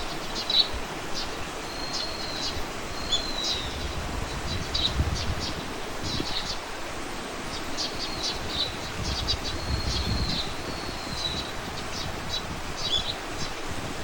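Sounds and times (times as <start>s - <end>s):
small birds chirping: 0.0s - 13.7s
wind rustling leaves: 0.0s - 14.0s.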